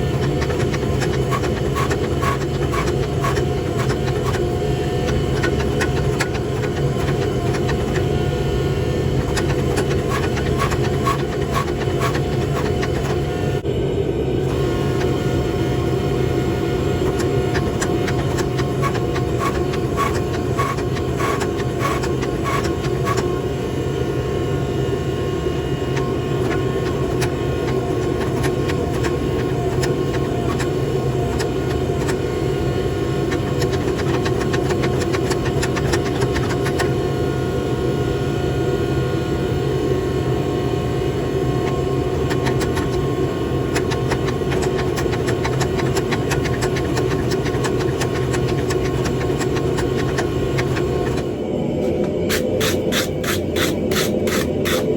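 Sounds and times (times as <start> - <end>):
hydraulic pump motor drone: 0.0 - 54.9.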